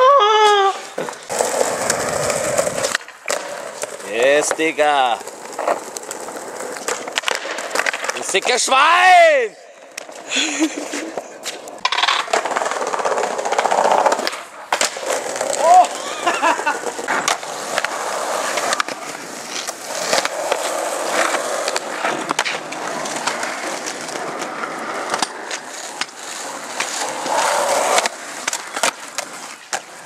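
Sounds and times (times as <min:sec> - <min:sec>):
skateboard wheels rolling on asphalt: 0:00.0 - 0:30.0
skateboard clacks: 0:01.0 - 0:30.0.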